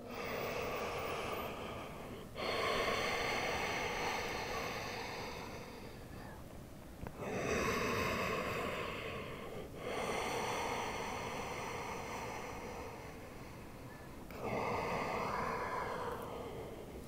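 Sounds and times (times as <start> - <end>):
woman breathing deeply: 0.0 - 6.5, 7.1 - 17.0.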